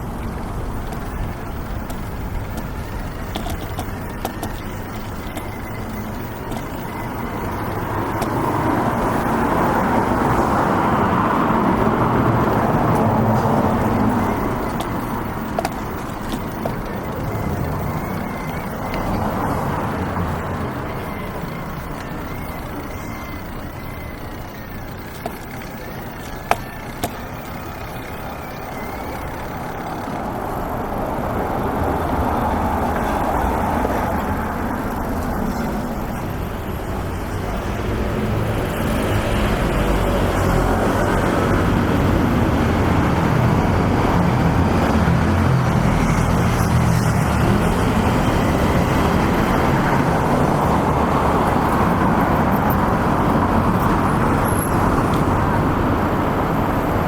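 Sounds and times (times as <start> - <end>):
vehicles passing on street: 0.0 - 57.0.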